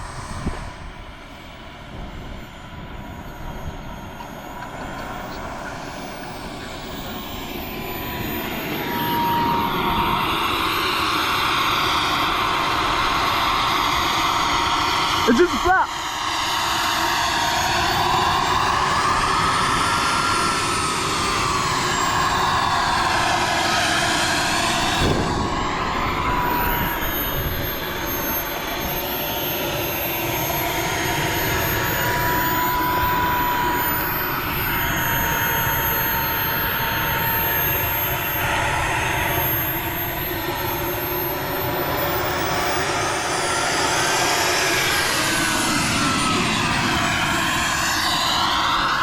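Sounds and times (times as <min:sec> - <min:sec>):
model jet turbine engine whine: 0:00.0 - 0:49.0.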